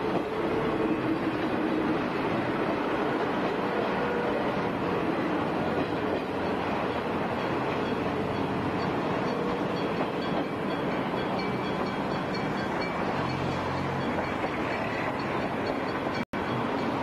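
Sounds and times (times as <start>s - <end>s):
trains rumbling past: 0.0s - 17.0s.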